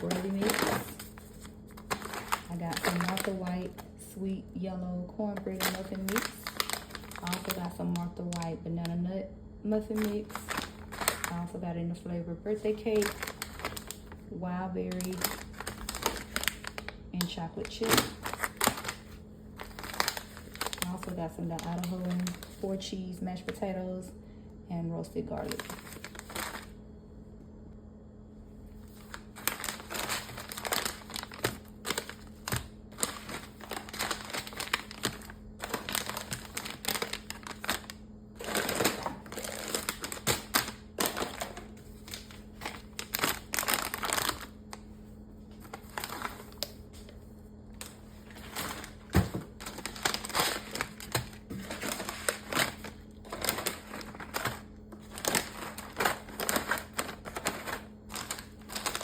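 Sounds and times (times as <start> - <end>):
packaging crinkling: 0.0 - 4.0, 5.3 - 8.8, 9.8 - 11.6, 12.5 - 14.3, 14.9 - 22.8, 25.4 - 26.8, 28.7 - 59.0
faint steady hum: 0.0 - 59.0.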